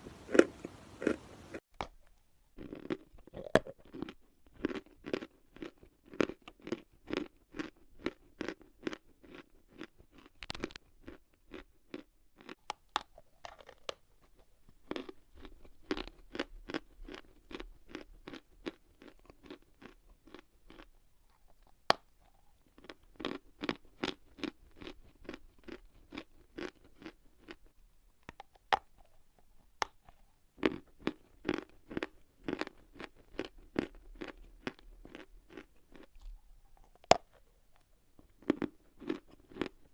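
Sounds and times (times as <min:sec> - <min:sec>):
chalk crunching while chewed: 0:01.8 - 0:39.9.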